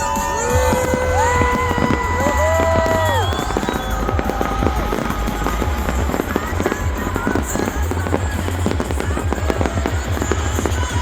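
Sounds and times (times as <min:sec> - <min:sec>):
fireworks crackling and booming: 0:00.0 - 0:11.0
music playing: 0:00.0 - 0:11.0.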